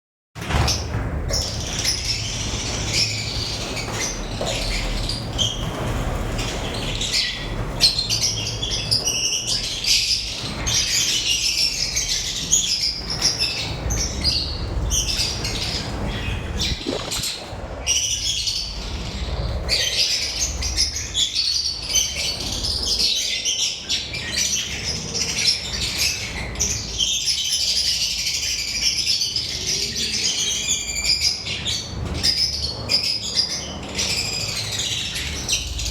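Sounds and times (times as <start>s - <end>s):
lovebirds chirping and squawking: 0.5s - 35.9s.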